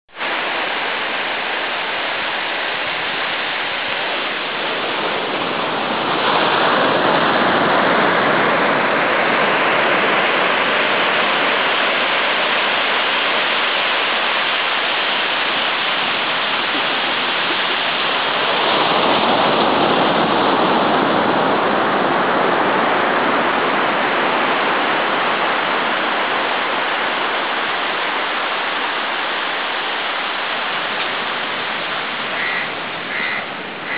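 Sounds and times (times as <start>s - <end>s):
waves breaking on beach: 0.1s - 33.9s.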